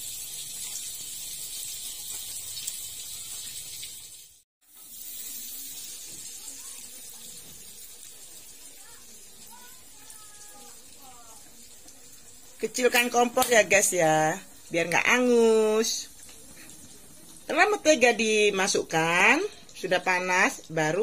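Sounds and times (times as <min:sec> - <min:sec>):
margarine sizzling in hot wok: 0:00.0 - 0:21.0.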